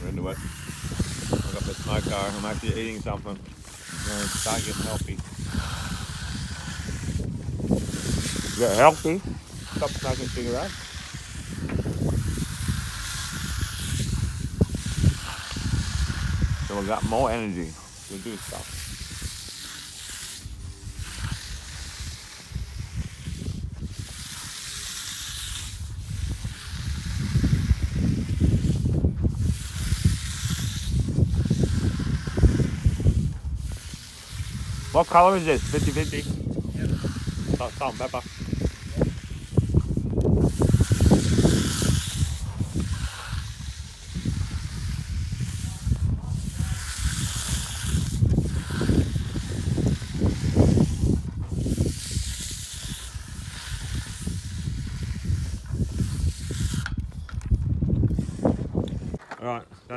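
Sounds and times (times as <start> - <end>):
trowel scraping wet concrete: 0.0 - 59.9
wind rumbling on microphone: 0.0 - 59.9.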